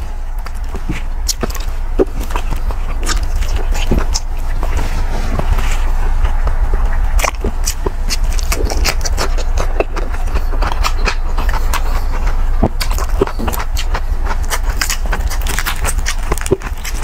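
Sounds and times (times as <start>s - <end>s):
chewing cucumber crunches: 0.0s - 17.0s
crispy skin crackling: 0.0s - 17.0s
low hum: 0.0s - 17.0s
mouth clicks: 0.4s - 17.0s.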